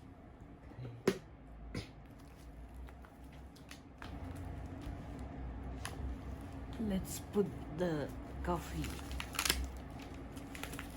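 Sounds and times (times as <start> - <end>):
faint low hum: 0.0 - 10.9.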